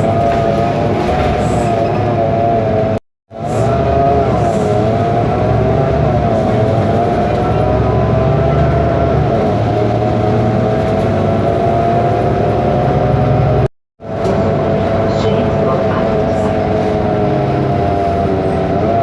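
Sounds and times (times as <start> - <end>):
diesel bus engine drone: 0.0 - 19.0
engine whine: 0.0 - 19.0.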